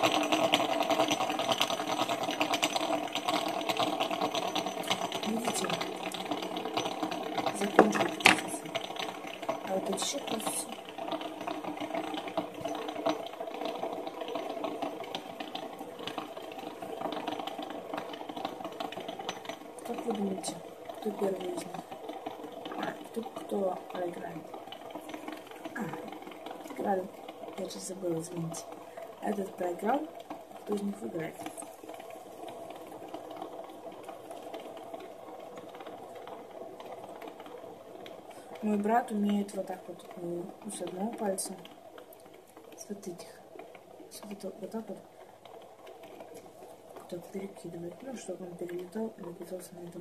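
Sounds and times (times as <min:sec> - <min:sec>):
fidget spinners whirring: 0:00.0 - 0:50.0.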